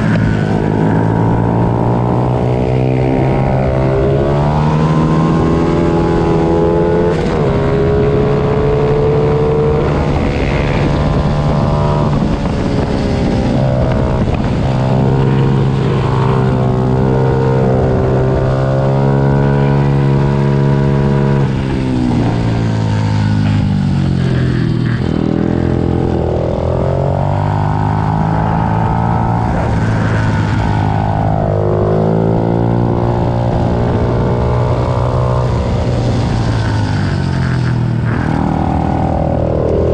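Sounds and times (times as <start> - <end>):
small motorbike engines revving: 0.0 - 39.9.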